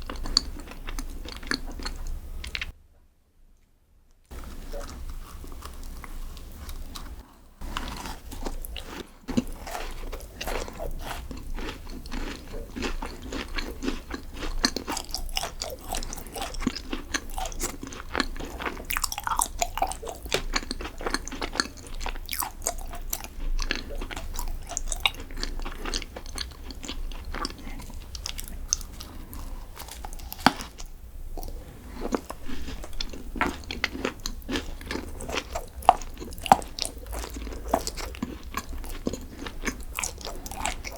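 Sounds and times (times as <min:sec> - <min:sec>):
crunching chewing: 0:00.0 - 0:02.7, 0:04.3 - 0:40.9.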